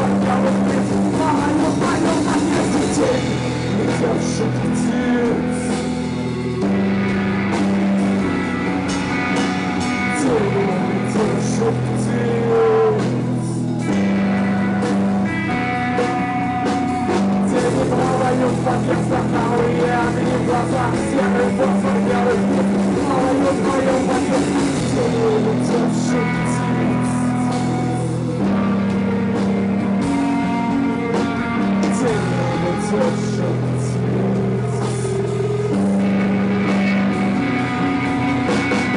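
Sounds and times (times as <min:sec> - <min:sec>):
bass guitar: 0:00.0 - 0:38.9
drum kit: 0:00.0 - 0:38.9
electric guitar lead: 0:00.0 - 0:38.9.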